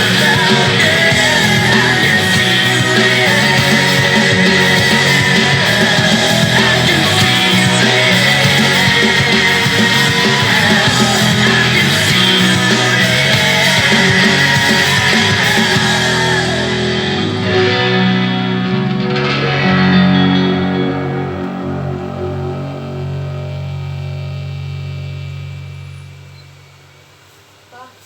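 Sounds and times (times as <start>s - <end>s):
rock band with electric guitar: 0.0s - 27.0s.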